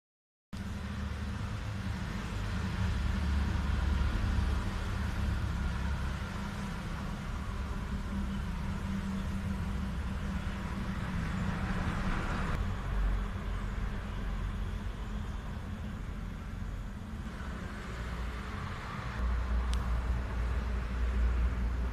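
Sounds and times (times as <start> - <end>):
low background rumble: 0.6 - 21.9.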